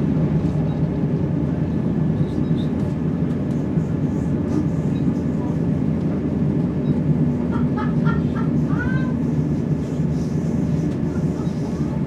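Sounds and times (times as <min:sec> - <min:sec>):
train diesel engine rumble: 0:00.0 - 0:12.0.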